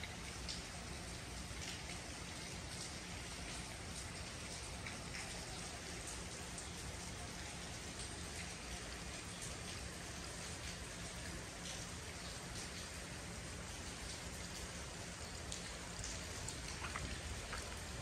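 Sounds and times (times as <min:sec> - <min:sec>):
drops ticking on wet paving: 0:00.0 - 0:18.0
steady rain hiss: 0:00.0 - 0:18.0.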